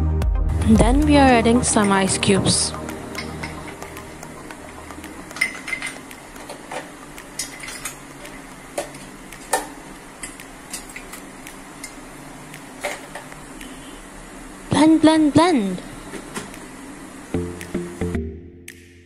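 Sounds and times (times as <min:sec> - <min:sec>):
faint steady hum: 0:00.7 - 0:18.4.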